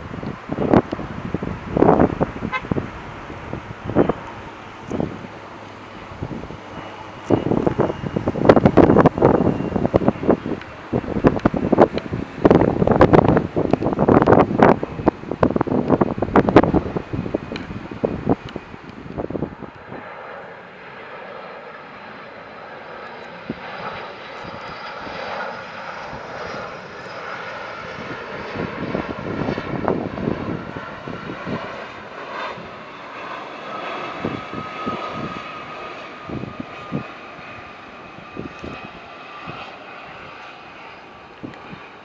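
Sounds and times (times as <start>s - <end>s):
wind buffeting microphone: 0.0s - 20.3s, 23.1s - 42.0s
jet engines roaring: 0.0s - 42.0s.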